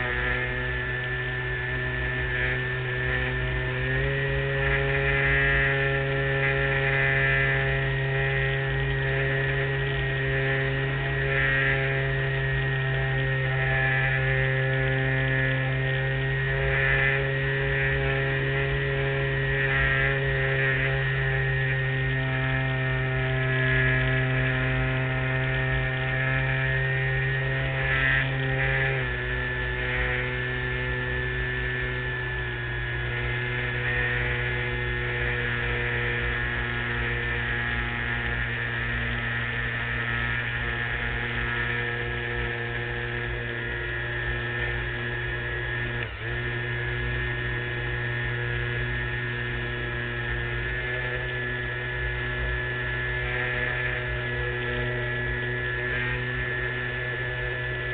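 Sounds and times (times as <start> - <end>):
model airplane motor and propeller: 0.0 - 57.9.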